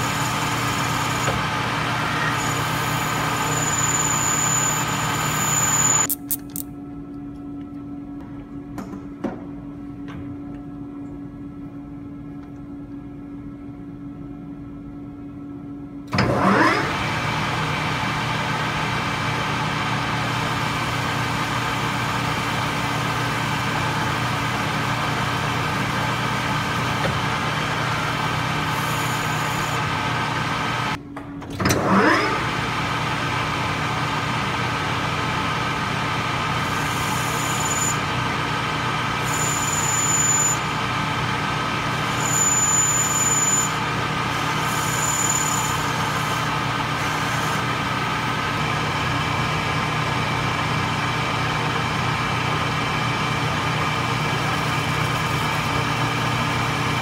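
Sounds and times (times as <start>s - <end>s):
lathe motor whine and hum: 0.0s - 6.1s, 6.8s - 31.0s, 31.6s - 57.0s.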